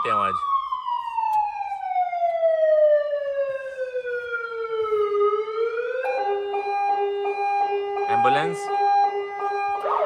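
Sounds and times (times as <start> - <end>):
rapidly pulsing siren tone: 0.0 - 10.0
wailing electronic siren: 0.0 - 10.0.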